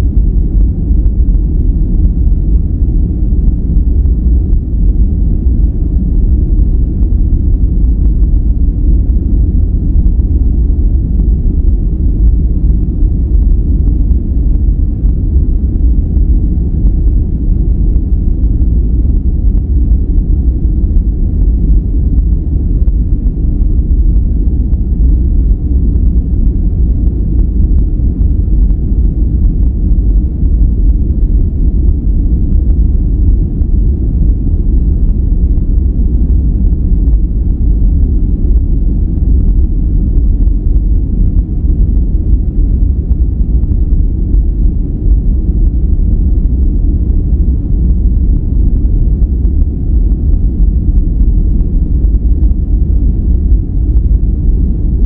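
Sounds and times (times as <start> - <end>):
deep rumbling brown noise: 0.0 - 55.0.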